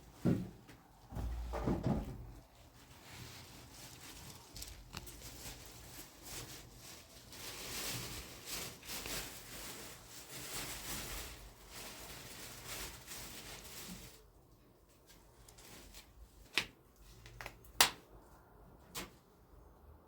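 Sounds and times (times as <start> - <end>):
rustling and handling noise: 0.0 - 19.7.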